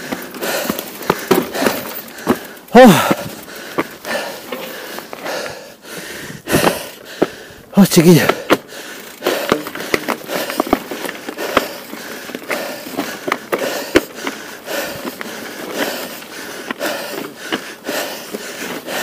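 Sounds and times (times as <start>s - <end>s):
bike knocks and rattles: 0.0s - 5.6s, 6.4s - 7.5s, 8.1s - 19.0s
bike tyres rolling over gravel: 0.0s - 19.0s.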